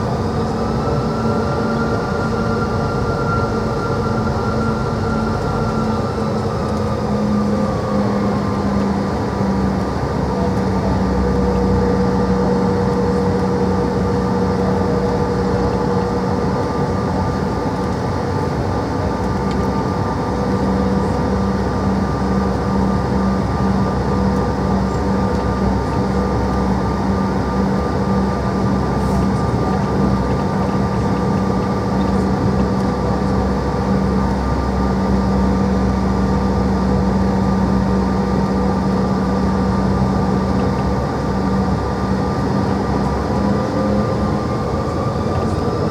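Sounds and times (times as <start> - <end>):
jet engine cabin drone: 0.0 - 45.9.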